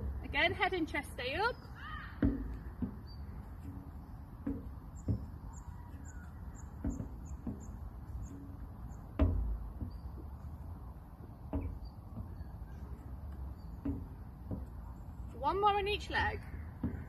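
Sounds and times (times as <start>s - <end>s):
footsteps on metal step: 0.0s - 17.0s.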